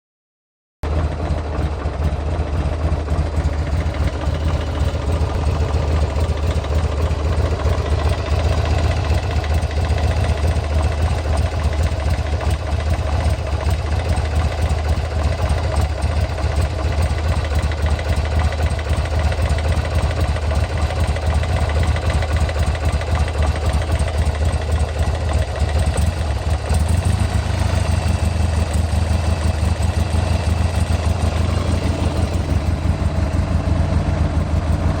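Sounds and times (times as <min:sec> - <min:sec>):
engine ticking clatter: 0:00.8 - 0:35.0
motorcycle engine idling: 0:00.9 - 0:35.0.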